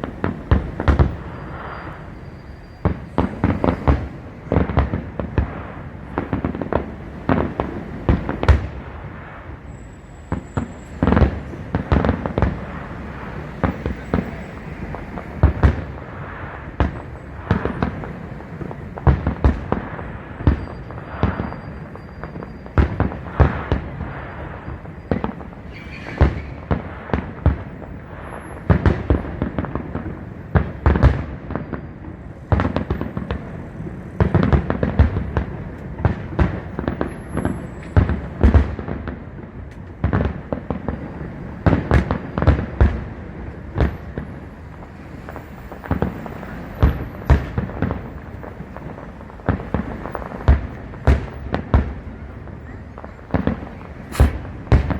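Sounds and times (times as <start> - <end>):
fireworks bursting: 0.0 - 54.9
fireworks crackling: 0.0 - 54.9.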